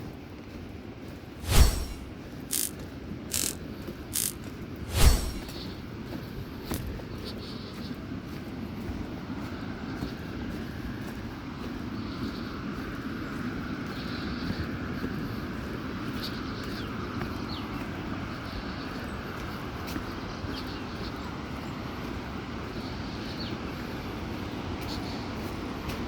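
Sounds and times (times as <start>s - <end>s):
rushing outdoor background noise: 0.0s - 26.0s.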